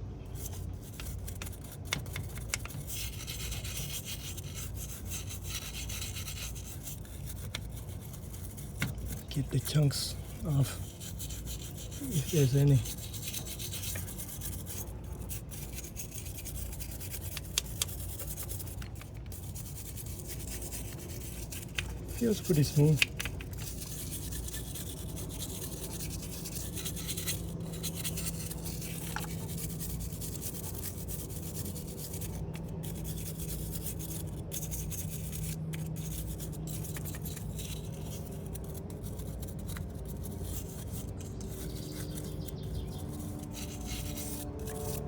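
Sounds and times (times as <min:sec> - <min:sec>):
steady low hum: 0:00.0 - 0:45.0
wire brush scratching metal: 0:00.3 - 0:45.0.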